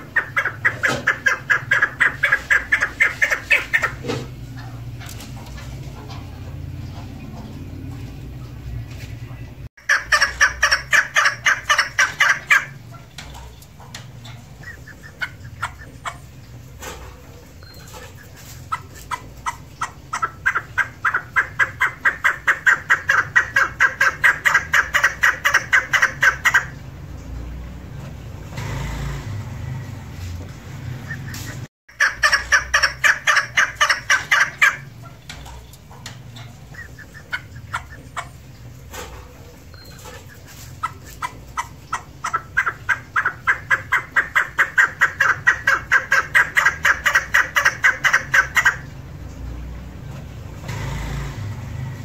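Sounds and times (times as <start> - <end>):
partridge calling in rapid notes: 0.0 - 7.8, 9.4 - 26.8, 31.0 - 49.0.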